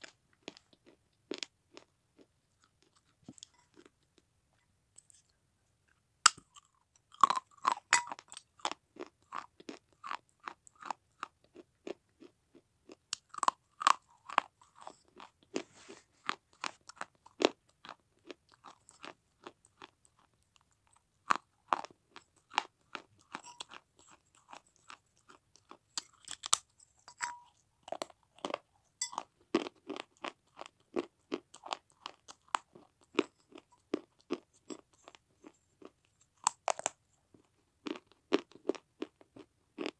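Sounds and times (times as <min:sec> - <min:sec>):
clay being chewed with crunches: 0:00.0 - 0:39.9.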